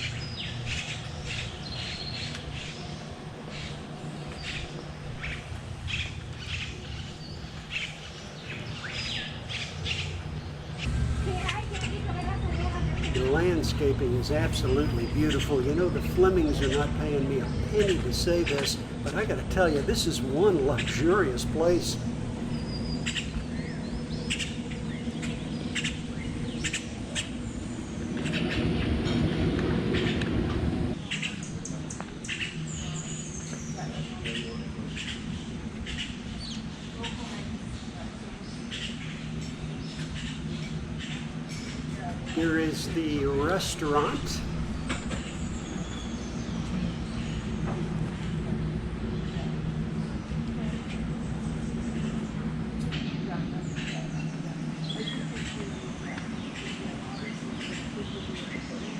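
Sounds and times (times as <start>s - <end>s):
birds chirping: 0.0s - 58.9s
low background rumble: 0.0s - 58.9s.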